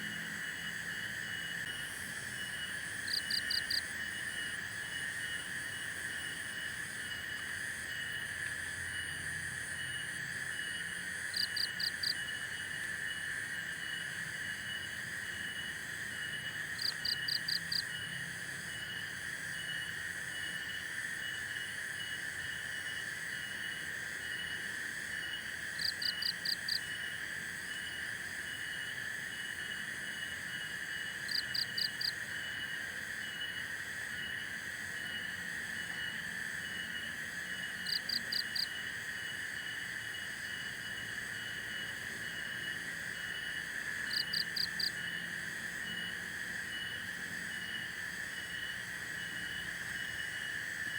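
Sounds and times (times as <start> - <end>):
crickets and insects chirping: 0.0 - 50.9.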